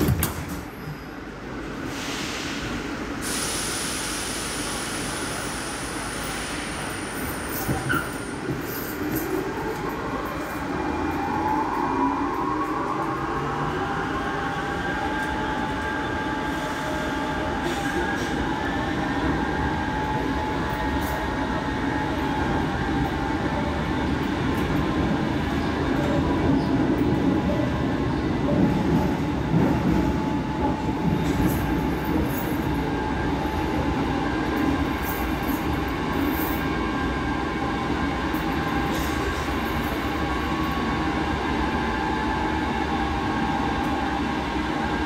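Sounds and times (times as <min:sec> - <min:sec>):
wheels rumbling on rail: 0:00.0 - 0:45.0.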